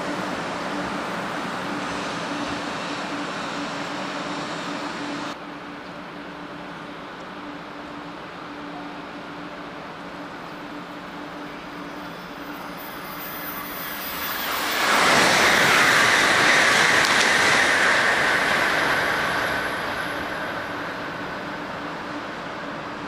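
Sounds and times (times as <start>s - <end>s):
high-speed train passing: 0.0s - 23.0s.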